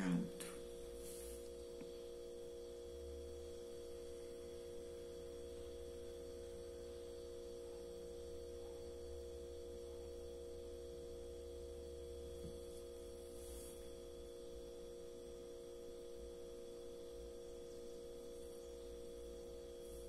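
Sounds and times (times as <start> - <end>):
constant held tone: 0.0 - 20.0
faint electrical hum: 0.0 - 20.0.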